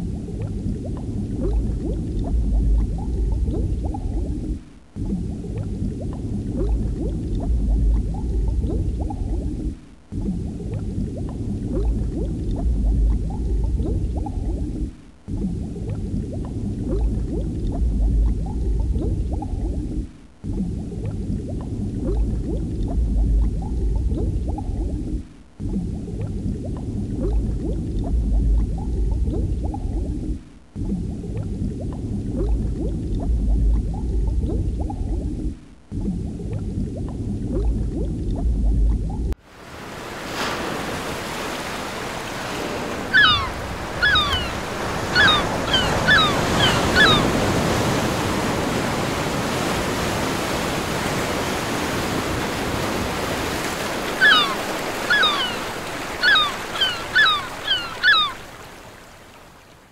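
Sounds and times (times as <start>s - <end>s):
muffled underwater bubbling: 0.0s - 59.9s.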